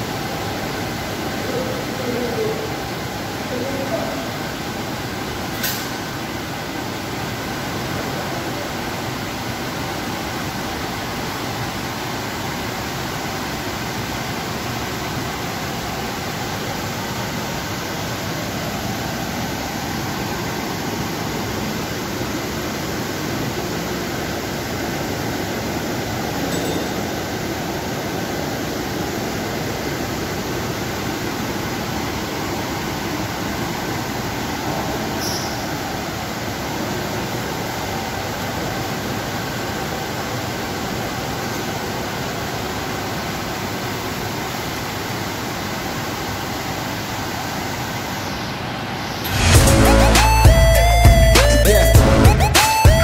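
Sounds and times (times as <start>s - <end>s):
machinery hum and hiss: 0.0s - 52.8s.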